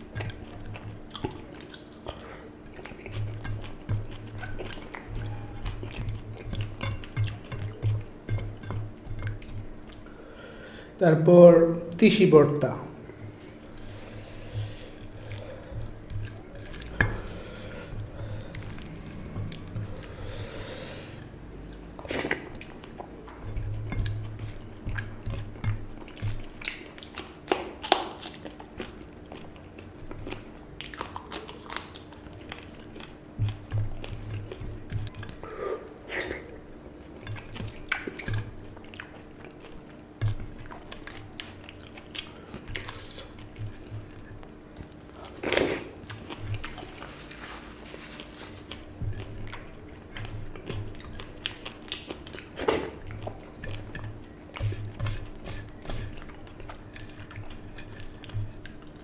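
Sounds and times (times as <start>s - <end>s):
man chewing with wet mouth sounds: 0.0s - 11.0s, 11.9s - 59.0s
faint steady hum: 0.0s - 59.0s.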